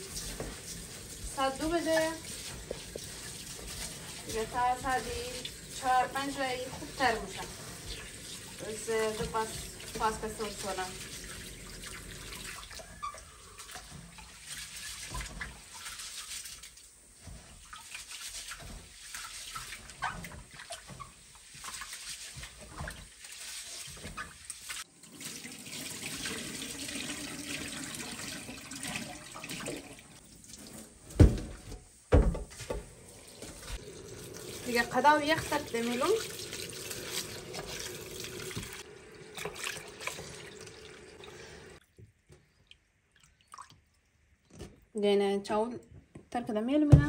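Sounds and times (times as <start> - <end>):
tap water running and splashing: 0.0 - 44.8.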